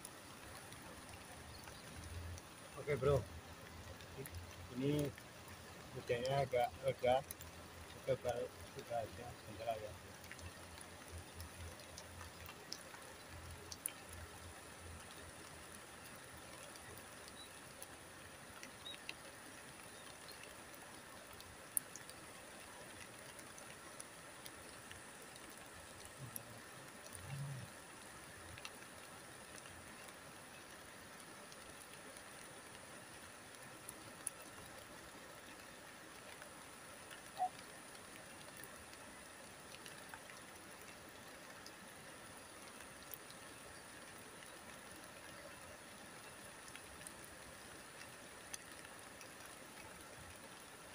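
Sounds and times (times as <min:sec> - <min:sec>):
light drizzle: 0:00.0 - 0:50.9
river water hiss: 0:00.0 - 0:50.9
soft ticks: 0:00.0 - 0:50.9.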